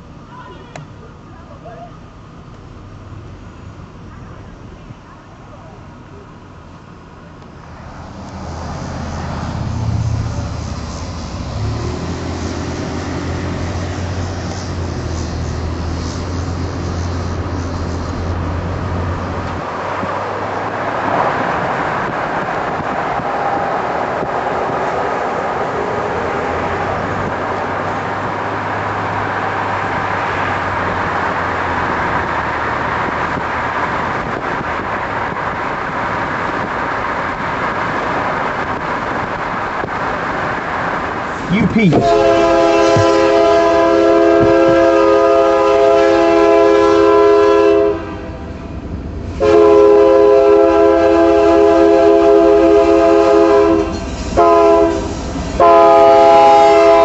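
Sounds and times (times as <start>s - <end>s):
diesel locomotive engine drone: 0.0s - 57.0s
train cars rolling on rails: 0.0s - 57.0s.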